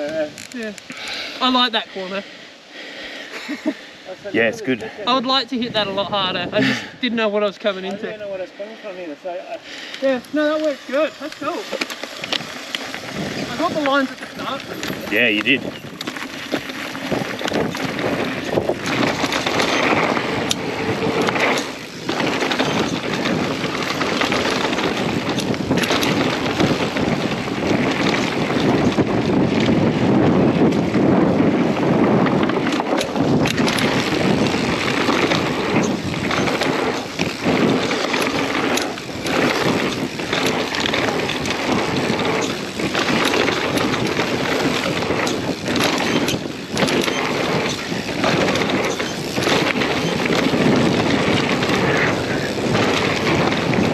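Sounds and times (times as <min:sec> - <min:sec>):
bike tyres rolling over dirt: 0:00.0 - 0:01.8, 0:07.8 - 0:53.9
wind buffeting microphone: 0:04.1 - 0:08.4, 0:10.0 - 0:53.9
bike knocks and rattles: 0:10.4 - 0:53.9.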